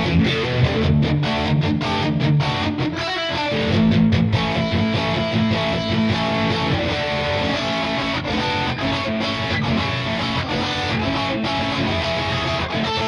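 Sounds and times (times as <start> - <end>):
electric guitar single notes: 0.0 - 13.0.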